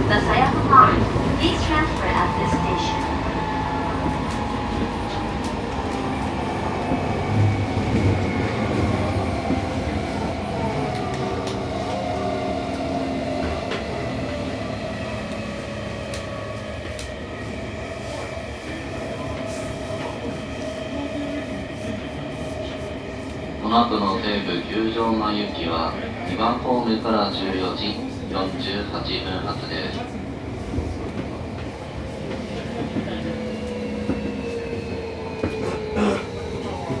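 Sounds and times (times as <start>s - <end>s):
wheel and rail rumble: 0.0s - 37.0s.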